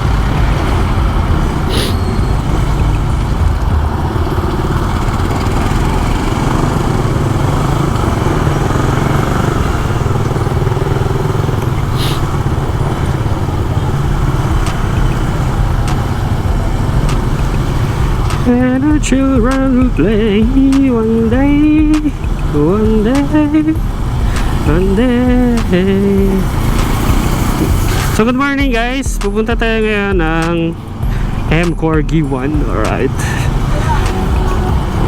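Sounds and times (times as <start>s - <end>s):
motorcycle engine running: 0.0s - 35.0s
wind and road noise: 0.0s - 35.0s.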